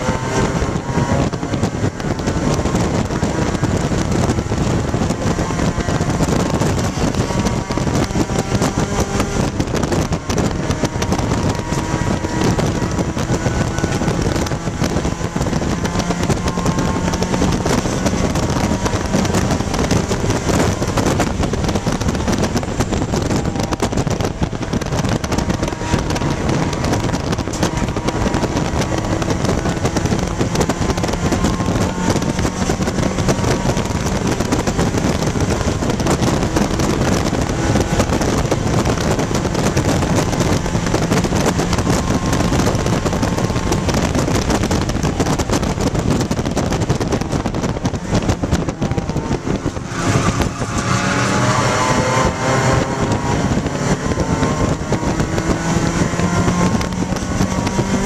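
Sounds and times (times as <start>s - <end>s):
race car engine running hard: 0.0s - 58.0s
road and wind noise: 0.0s - 58.0s.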